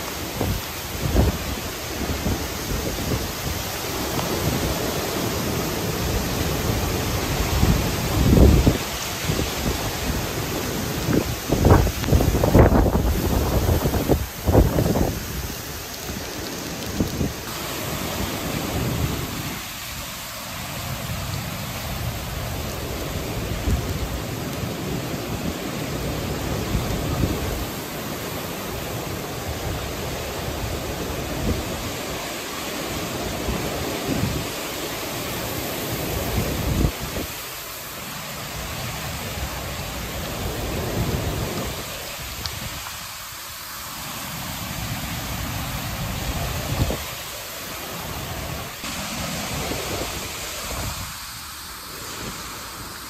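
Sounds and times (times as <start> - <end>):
wind gusts on microphone: 0.0 - 37.5, 38.4 - 43.2, 44.3 - 53.0
heavy rain hissing: 0.0 - 53.0.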